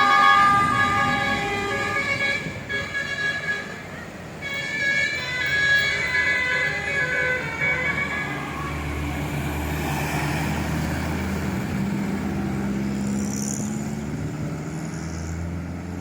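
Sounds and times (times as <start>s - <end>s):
bus engine running: 0.0s - 16.0s
road noise: 0.0s - 16.0s.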